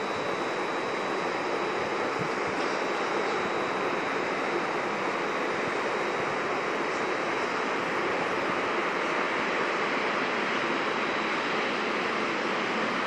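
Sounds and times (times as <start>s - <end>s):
faint high whine: 0.0s - 13.0s
train rushing on track: 0.0s - 13.0s.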